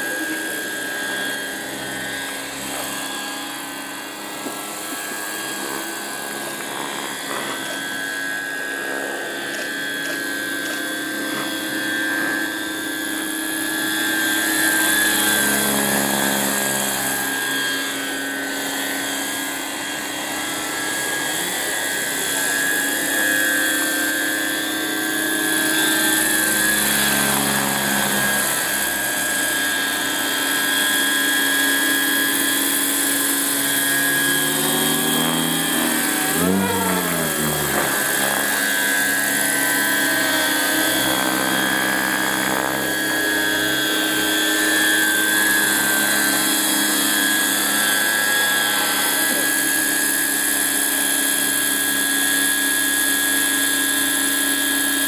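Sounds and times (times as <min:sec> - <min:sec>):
model helicopter flying: 0:00.0 - 0:55.0.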